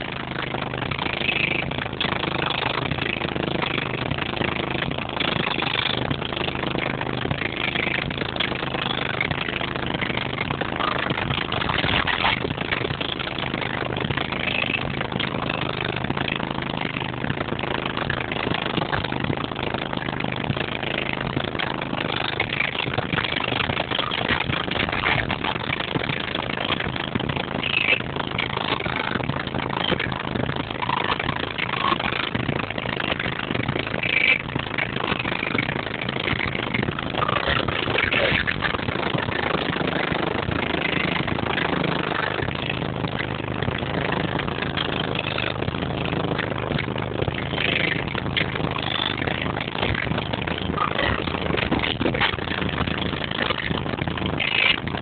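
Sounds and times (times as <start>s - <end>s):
harsh noisy haze: 0.0s - 55.0s
subwoofer bass drone: 0.0s - 55.0s.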